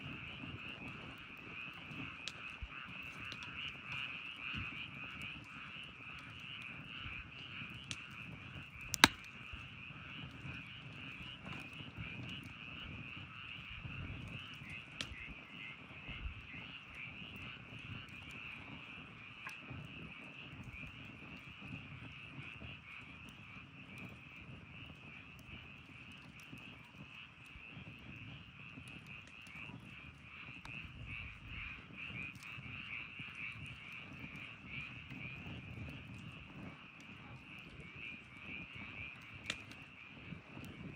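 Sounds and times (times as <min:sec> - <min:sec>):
campfire crackling and popping: 0:00.0 - 0:40.9
frogs calling: 0:00.1 - 0:40.9.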